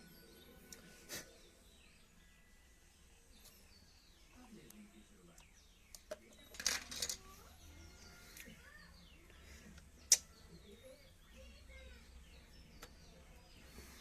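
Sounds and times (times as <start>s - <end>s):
faint bird chirps: 0.0s - 6.6s, 7.2s - 14.0s.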